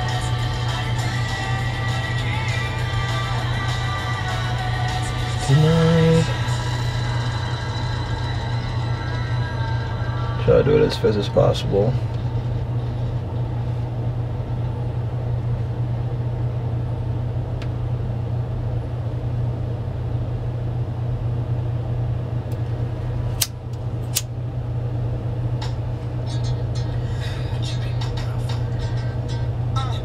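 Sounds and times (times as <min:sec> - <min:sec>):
steady low rumbling hum: 0:00.0 - 0:30.0.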